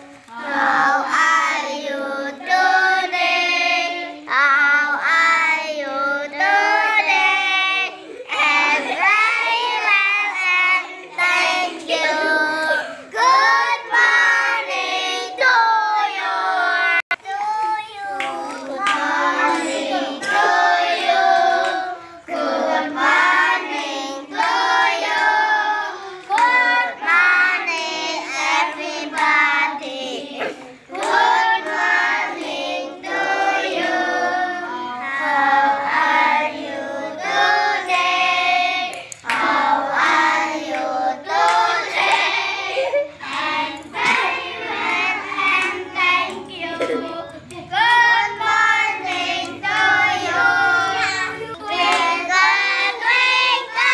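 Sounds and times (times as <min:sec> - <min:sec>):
children singing: 0:00.0 - 0:53.9.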